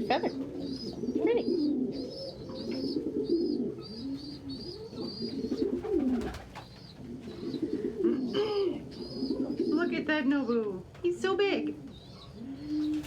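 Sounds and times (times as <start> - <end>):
pigeons cooing: 0.0 - 10.3, 11.7 - 13.0.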